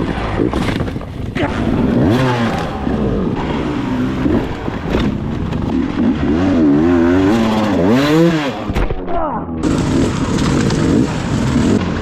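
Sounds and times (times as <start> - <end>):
dirt bike engine revving: 0.0 - 8.8, 9.6 - 12.0.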